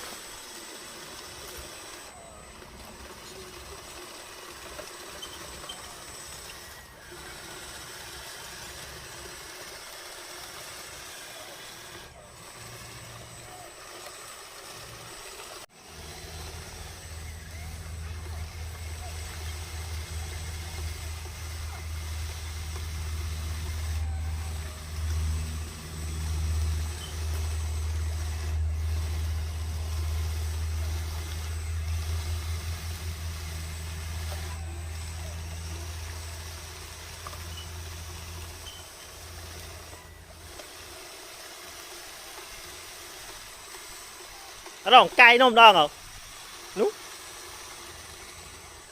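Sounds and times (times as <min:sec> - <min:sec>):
toy bulldozer motor drone: 0:00.0 - 0:48.9.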